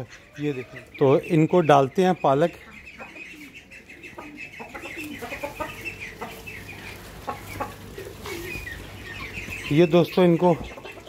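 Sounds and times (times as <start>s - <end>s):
chickens clucking: 0.0s - 11.0s
small birds chirping: 0.0s - 11.0s.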